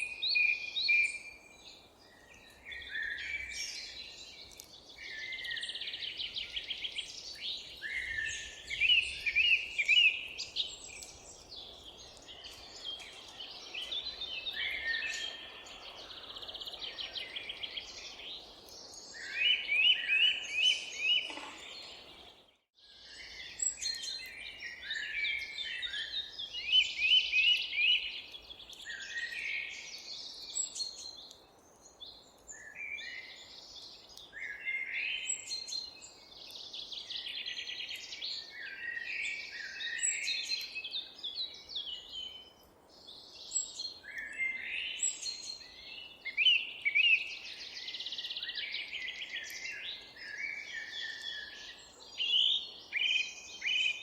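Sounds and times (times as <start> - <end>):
faint outdoor hiss: 0.0 - 54.0
songbirds chirping and trilling: 0.0 - 54.0.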